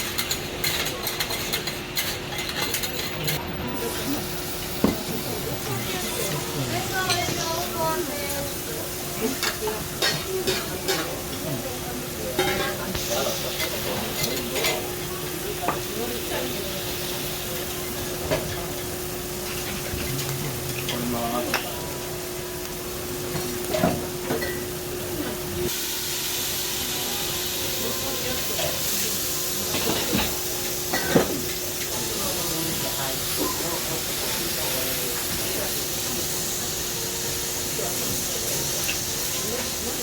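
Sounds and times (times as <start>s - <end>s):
garlic sizzling in oil: 3.8s - 40.0s.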